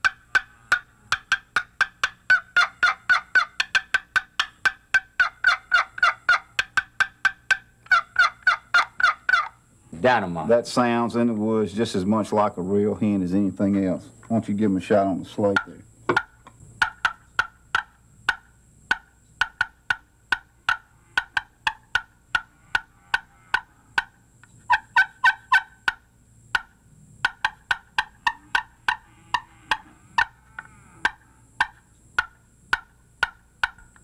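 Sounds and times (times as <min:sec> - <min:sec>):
turkey call clucks: 0:00.0 - 0:09.6, 0:15.4 - 0:34.0.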